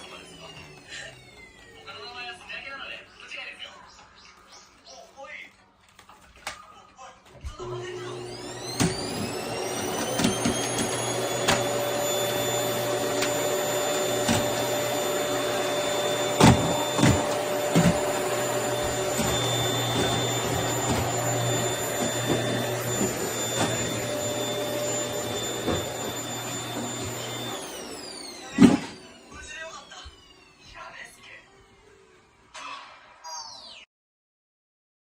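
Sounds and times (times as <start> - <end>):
vacuum cleaner whine: 0.0 - 3.4, 7.4 - 32.4.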